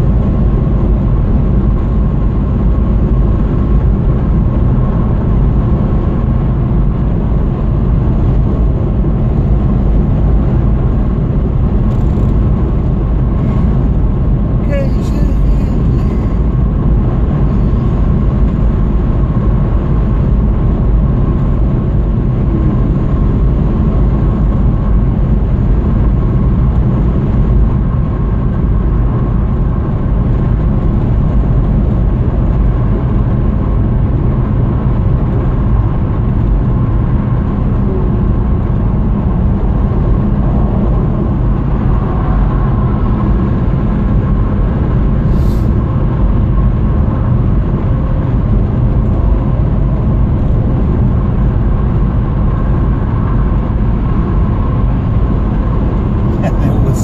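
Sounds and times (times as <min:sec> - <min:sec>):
car tyre and engine noise: 0:00.0 - 0:57.0.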